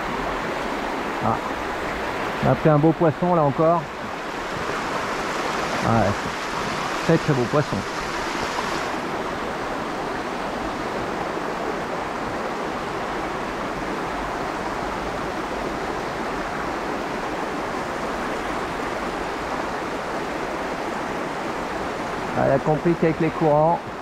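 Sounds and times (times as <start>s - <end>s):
river current flowing: 0.0s - 24.0s.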